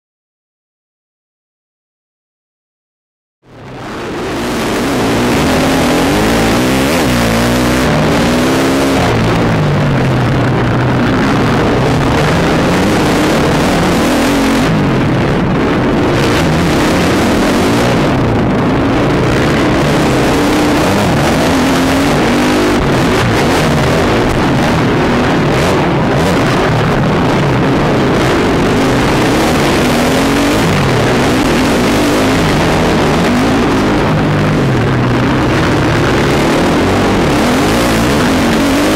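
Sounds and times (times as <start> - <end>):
loud rushing noise: 3.5 - 38.9
motocross bike engine revving: 3.7 - 38.9.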